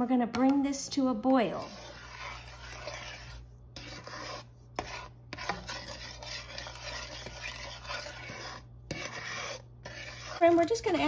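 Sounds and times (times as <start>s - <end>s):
wooden spatula scraping a pot: 0.8s - 11.0s.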